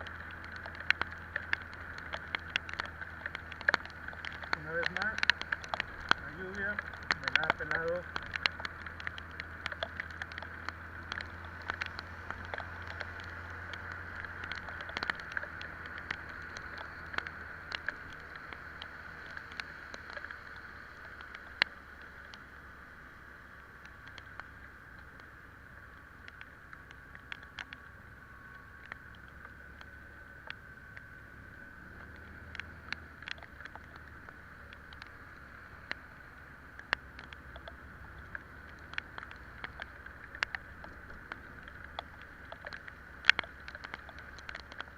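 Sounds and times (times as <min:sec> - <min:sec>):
raindrops ticking: 0:00.0 - 0:44.9.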